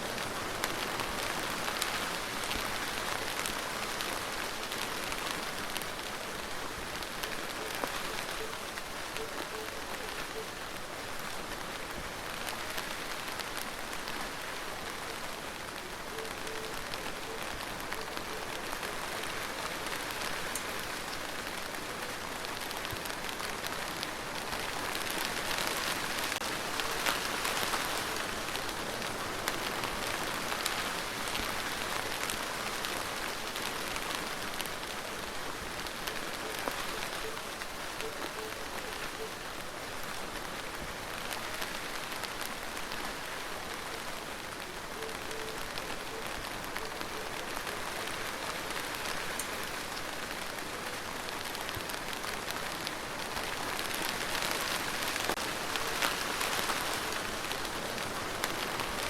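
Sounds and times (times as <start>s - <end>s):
rain hissing: 0.0s - 59.0s.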